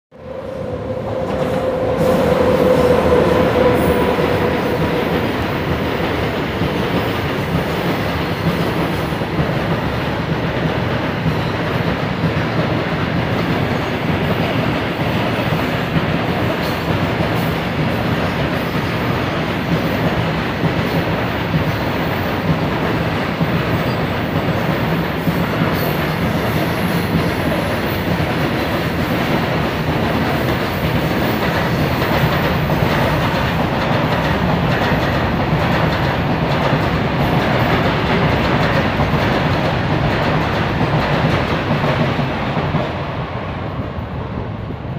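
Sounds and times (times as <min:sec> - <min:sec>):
freight train wheels rolling: 0:00.2 - 0:44.9.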